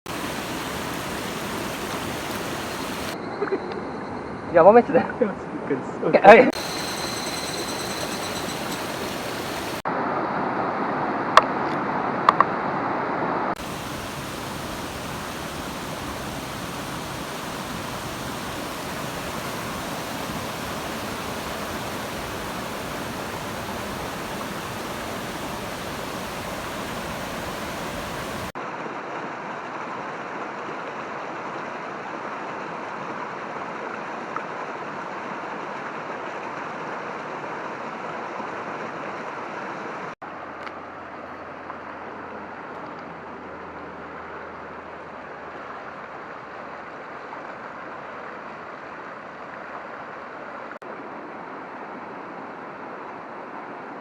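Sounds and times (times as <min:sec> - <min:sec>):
stream water rushing: 0:00.1 - 0:03.2, 0:06.5 - 0:11.1, 0:12.9 - 0:42.7, 0:44.0 - 0:53.9.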